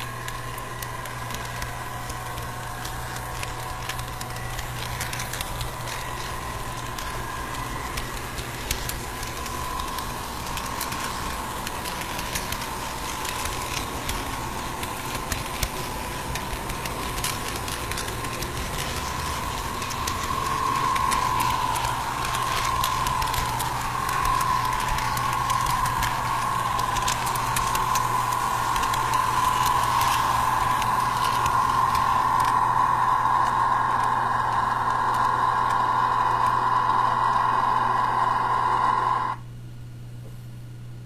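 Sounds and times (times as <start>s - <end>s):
electric motor whine: 0.0s - 39.4s
wheels clicking on rails: 0.0s - 39.4s
quiet hum: 0.0s - 41.0s.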